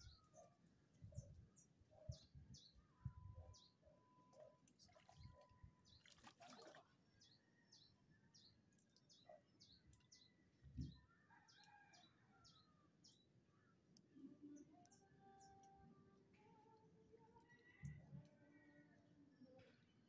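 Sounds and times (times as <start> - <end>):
faint high bird chirps: 0.0 - 19.8.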